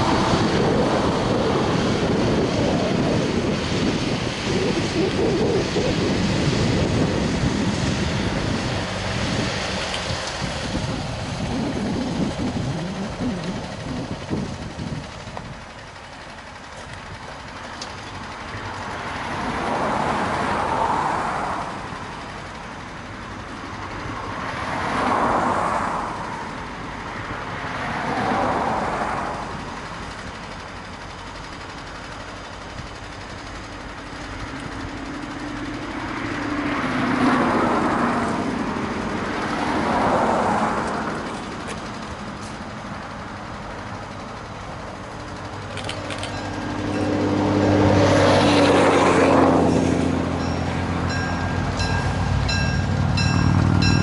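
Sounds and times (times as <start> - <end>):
approaching train hum: 0.0 - 54.0.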